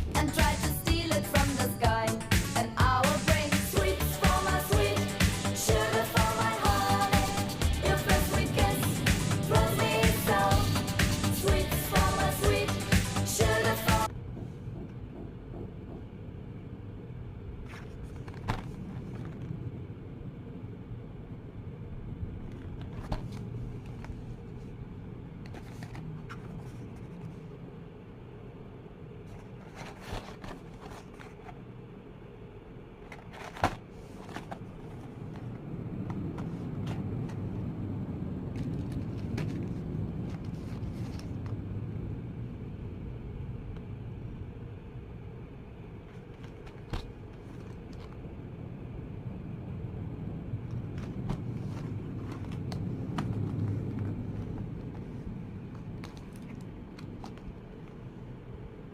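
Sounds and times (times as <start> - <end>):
steady low rumble: 0.0 - 58.9.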